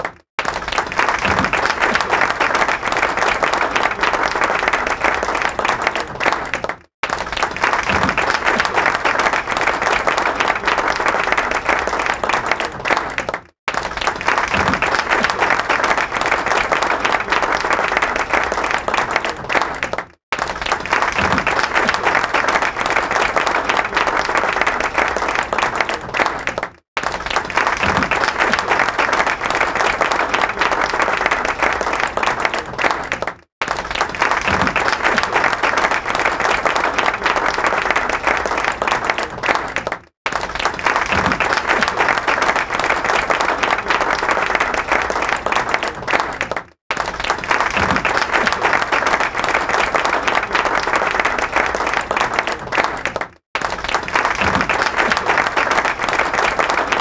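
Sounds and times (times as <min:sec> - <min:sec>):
crowd applauding: 0:00.0 - 0:57.0.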